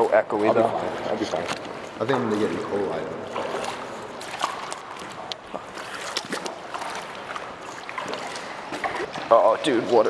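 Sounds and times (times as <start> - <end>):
footsteps splashing through water: 1.3 - 9.6.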